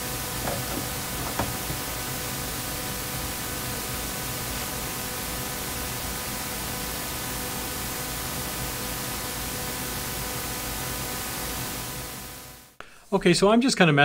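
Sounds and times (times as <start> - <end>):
electrical static hiss: 0.0 - 12.8
faint hum tones: 0.0 - 13.0.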